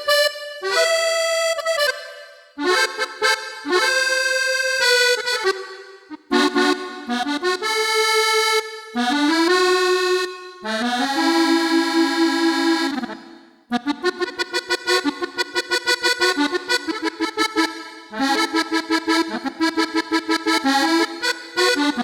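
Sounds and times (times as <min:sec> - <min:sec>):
synthesizer accordion chords: 0:00.0 - 0:22.0.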